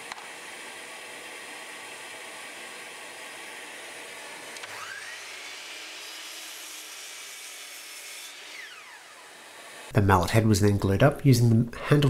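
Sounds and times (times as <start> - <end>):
mitre saw motor whining: 0.0 - 9.9
saw cutting wood: 0.0 - 9.9.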